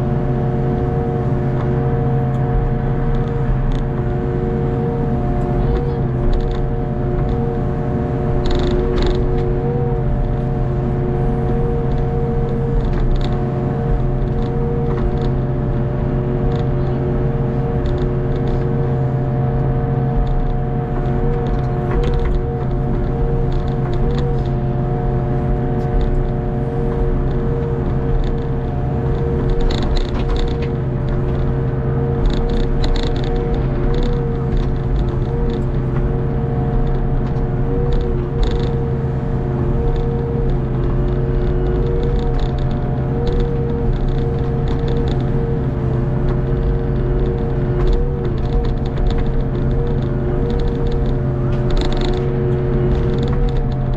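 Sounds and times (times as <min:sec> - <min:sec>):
excavator engine and hydraulics: 0:00.0 - 0:53.9.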